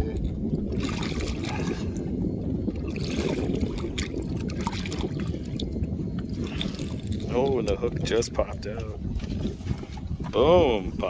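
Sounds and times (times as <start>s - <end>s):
water splashing: 0.0s - 11.0s
wind noise on microphone: 0.0s - 11.0s.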